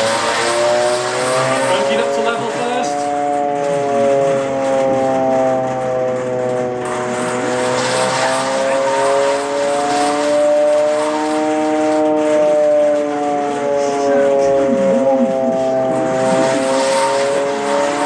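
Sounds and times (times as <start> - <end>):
warbling air-raid siren: 0.0 - 18.0.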